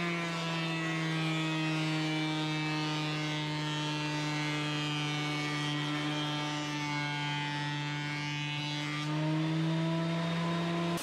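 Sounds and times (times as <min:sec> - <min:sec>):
planer motor humming: 0:00.0 - 0:11.0.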